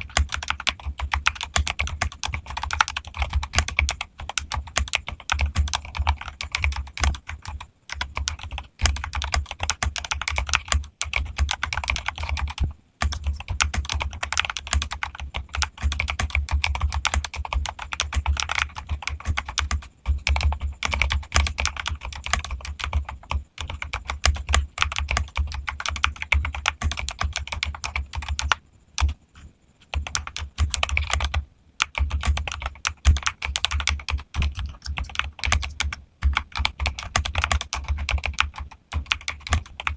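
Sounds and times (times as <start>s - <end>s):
mechanical keyboard typing: 0.0s - 29.2s, 29.9s - 39.9s.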